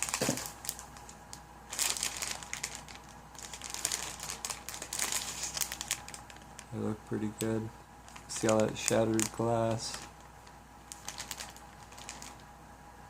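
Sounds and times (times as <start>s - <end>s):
packaging crinkling and rustling: 0.0s - 12.5s.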